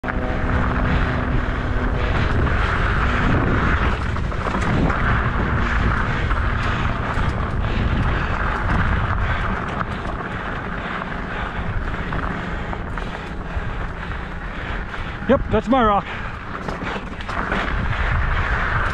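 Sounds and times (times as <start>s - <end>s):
bike clicking and rattling: 0.0s - 18.9s
tyres rolling on dirt: 0.0s - 18.9s
wind rumbling on microphone: 0.0s - 18.9s.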